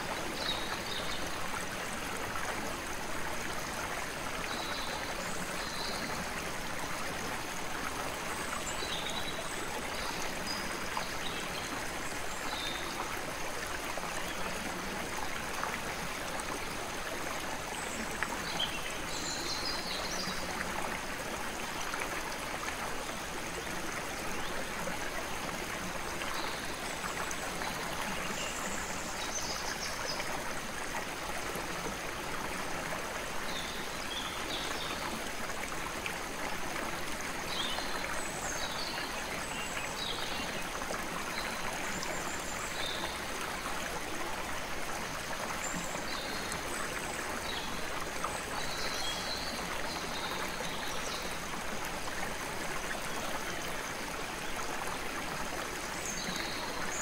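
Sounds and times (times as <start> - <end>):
creek water running: 0.0 - 57.0.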